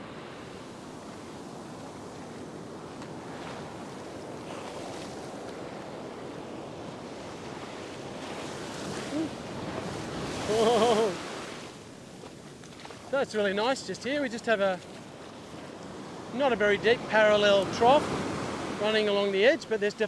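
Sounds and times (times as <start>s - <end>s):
ocean surf breaking: 0.0s - 20.0s.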